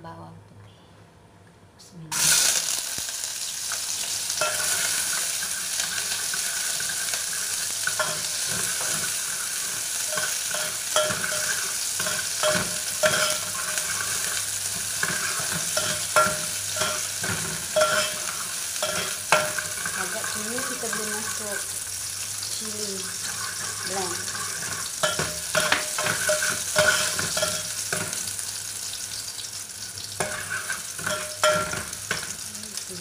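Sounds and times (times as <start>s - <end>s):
food sizzling in hot oil: 2.1s - 33.0s.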